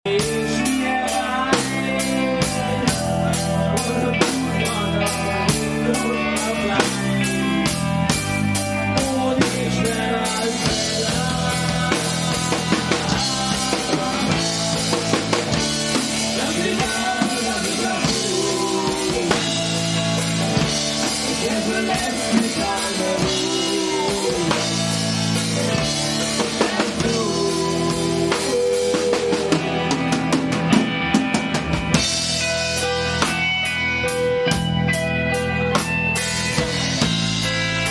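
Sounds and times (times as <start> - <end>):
rock band playing live: 0.0 - 37.9
bass line: 0.1 - 37.9
drum kit beat: 0.1 - 37.9.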